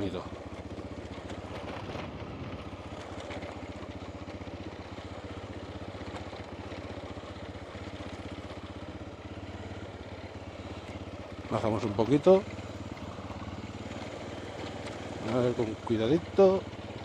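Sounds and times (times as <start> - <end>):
motorcycle engine running at low revs: 0.0 - 17.0.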